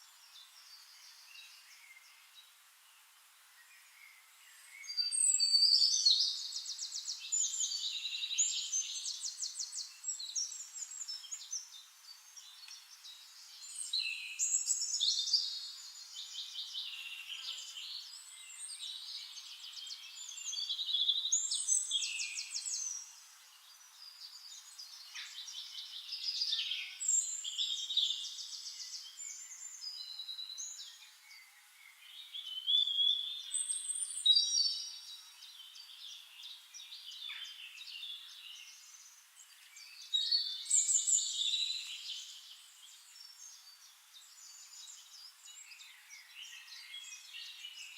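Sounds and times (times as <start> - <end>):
songbirds singing with trills: 0.0 - 47.9.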